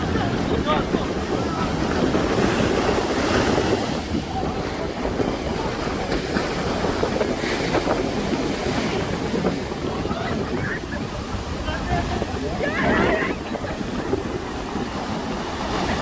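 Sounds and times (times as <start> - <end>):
waves breaking on beach: 0.0 - 16.0
wind buffeting microphone: 0.0 - 16.0.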